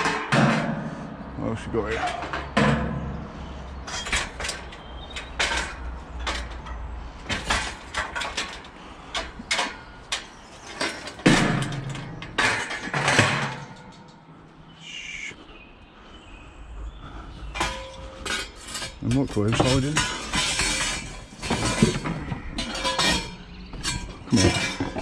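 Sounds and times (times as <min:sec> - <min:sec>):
scrap metal knocks and clanks: 0:00.0 - 0:14.4, 0:17.4 - 0:25.0.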